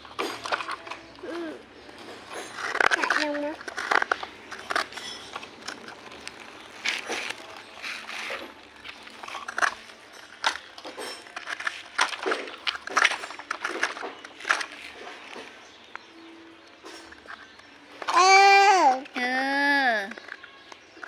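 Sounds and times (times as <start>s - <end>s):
sharp crackling clicks: 0.0s - 21.0s.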